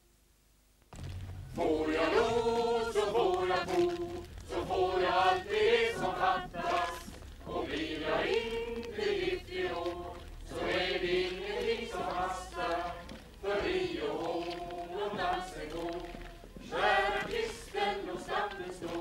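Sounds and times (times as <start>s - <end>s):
group singing folk song: 1.5s - 19.0s.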